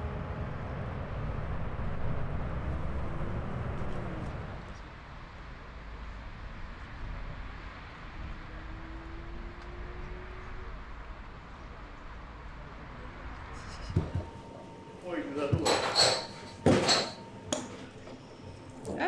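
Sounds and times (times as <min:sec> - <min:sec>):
faint engine tone rising: 0:00.0 - 0:15.5
distant traffic rumble: 0:00.0 - 0:19.0.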